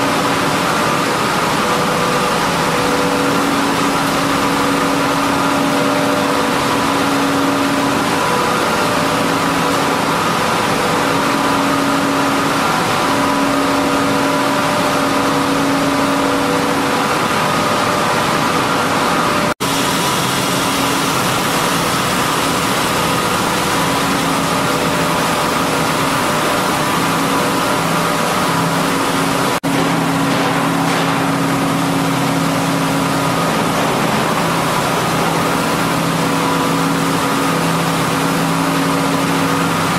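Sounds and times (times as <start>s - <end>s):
milling machinery drone: 0.0s - 39.9s
steady machine hum tones: 0.0s - 39.9s.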